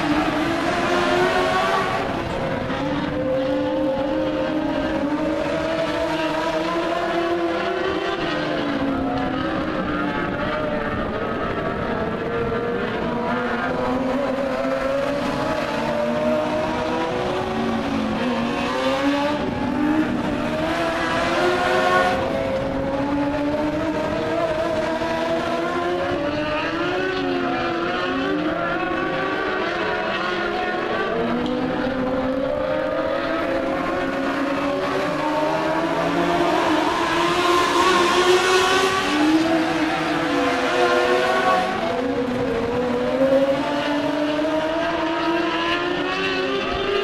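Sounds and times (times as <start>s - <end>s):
race car engines: 0.0s - 47.0s.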